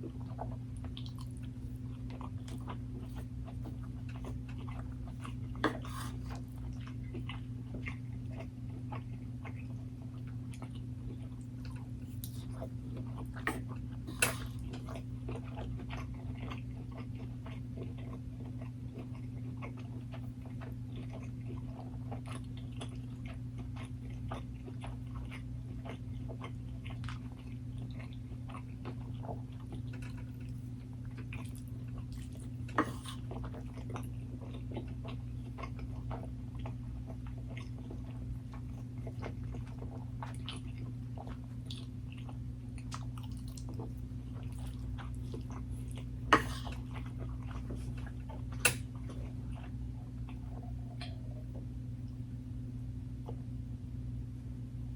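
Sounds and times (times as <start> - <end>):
chewing and biting food: 0.0 - 52.2
steady low hum: 0.0 - 54.9.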